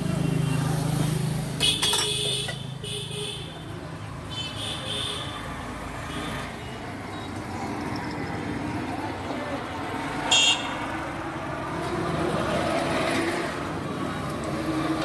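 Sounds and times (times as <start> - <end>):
traffic engine drone: 0.0 - 15.0.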